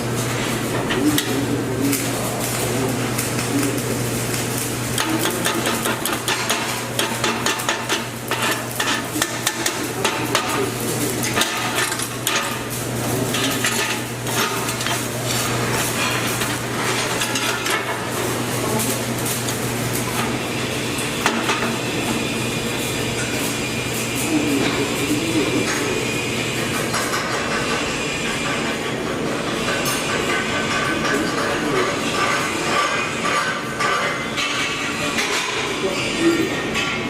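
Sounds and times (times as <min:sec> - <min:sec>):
welding arc crackling: 0:00.0 - 0:35.8.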